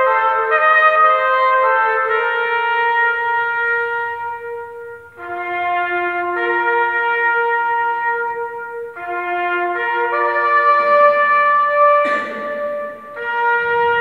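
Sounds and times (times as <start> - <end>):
brass band playing slow march: 0.0 - 14.0.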